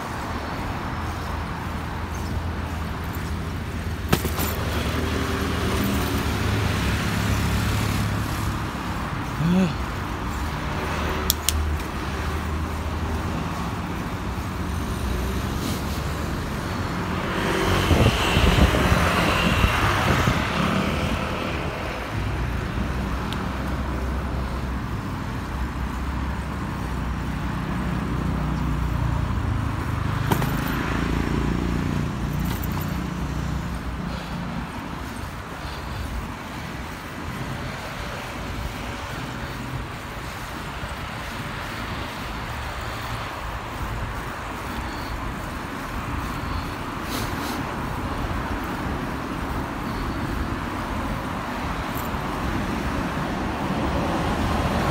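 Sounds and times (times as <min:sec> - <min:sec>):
vehicle passing: 0:00.0 - 0:45.2
road traffic hum: 0:00.0 - 0:54.9.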